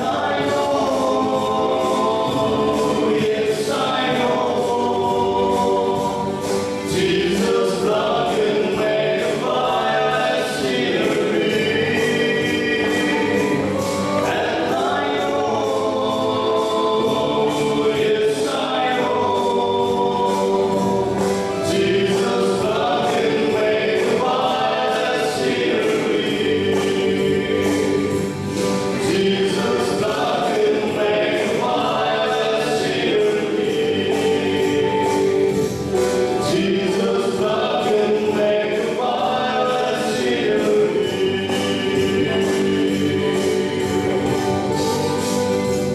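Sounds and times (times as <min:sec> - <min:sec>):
male vocal quartet singing: 0:00.0 - 0:45.9.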